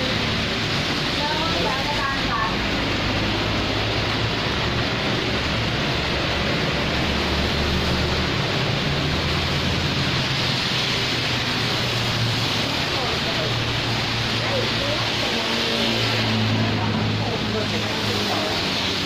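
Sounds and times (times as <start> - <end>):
steady rain falling: 0.0 - 19.0
vehicles driving past on wet road: 0.0 - 19.0.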